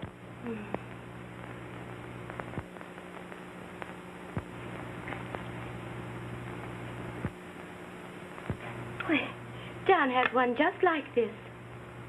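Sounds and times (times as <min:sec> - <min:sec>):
film soundtrack hum and hiss: 0:00.0 - 0:12.0.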